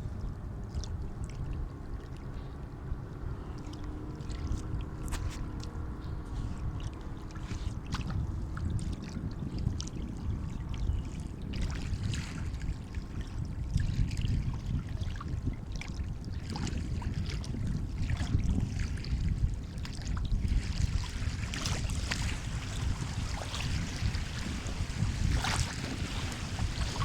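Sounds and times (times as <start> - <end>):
sea water lapping at shore: 0.0 - 27.0.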